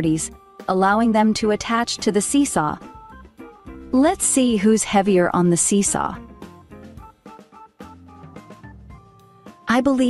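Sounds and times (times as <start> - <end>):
soft music with light drum beat: 0.0 - 10.0.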